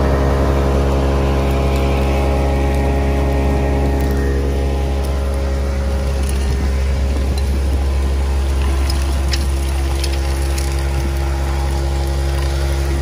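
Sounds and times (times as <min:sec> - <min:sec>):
vacuum excavator deep drone: 0:00.0 - 0:13.0.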